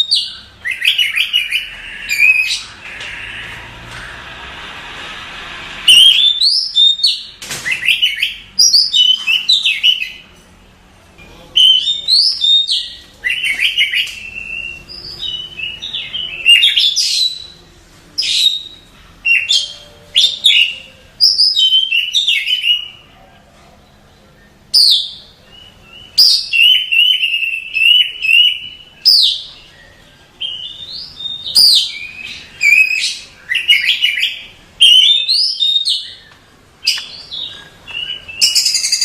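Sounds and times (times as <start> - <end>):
bird whistling and chirping: 0.0 - 3.4, 5.9 - 10.2, 11.6 - 17.6, 18.2 - 23.0, 24.4 - 39.0.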